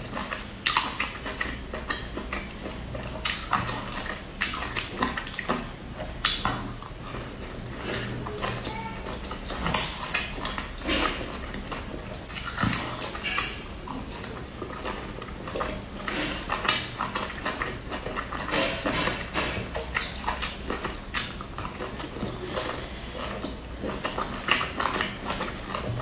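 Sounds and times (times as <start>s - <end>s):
wet chewing and slurping: 0.0s - 26.0s.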